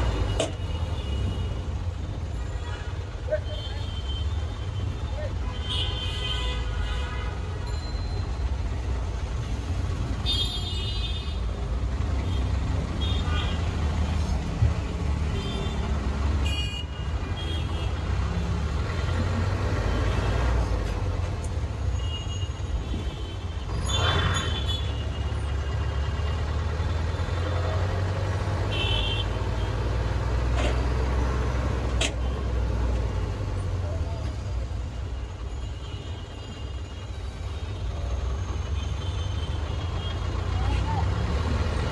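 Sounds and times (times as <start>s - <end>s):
traffic engine rumble: 0.0s - 41.9s.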